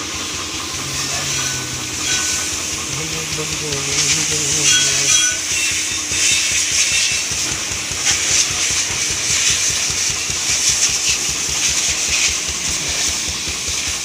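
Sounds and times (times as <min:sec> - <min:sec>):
hose water spraying: 0:00.0 - 0:14.0
low rapid pulsing: 0:00.0 - 0:14.0.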